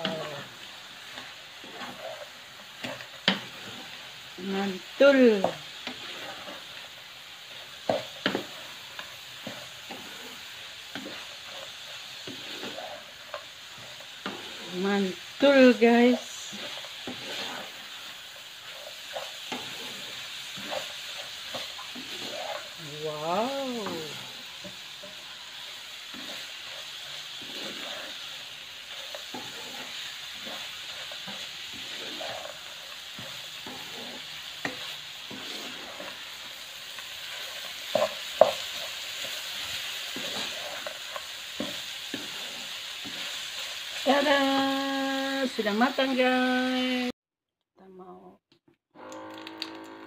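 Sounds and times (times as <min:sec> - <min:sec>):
spatula scraping and knocking pan: 0:00.0 - 0:04.4, 0:05.1 - 0:44.7
food sizzling in a wok: 0:00.0 - 0:47.2.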